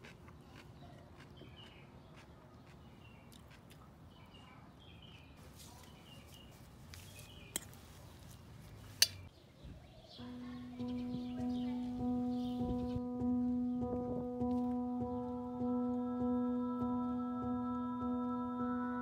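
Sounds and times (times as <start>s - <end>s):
small birds chirping: 0.0s - 18.7s.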